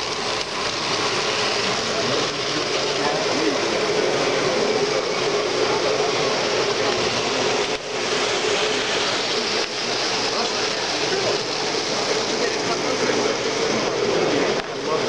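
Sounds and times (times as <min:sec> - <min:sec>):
busy hall din: 0:00.0 - 0:15.0
model trains running: 0:00.0 - 0:15.0.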